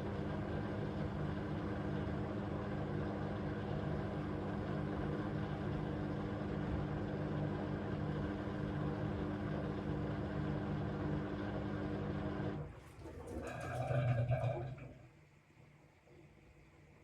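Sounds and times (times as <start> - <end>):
washing machine humming: 0.0 - 15.4.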